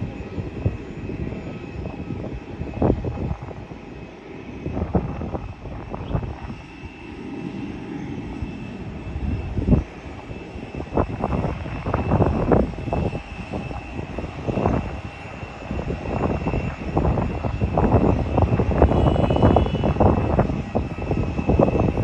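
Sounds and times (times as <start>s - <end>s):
jet engines rumbling and whining: 0.0s - 22.0s
wind buffeting microphone: 0.0s - 22.0s.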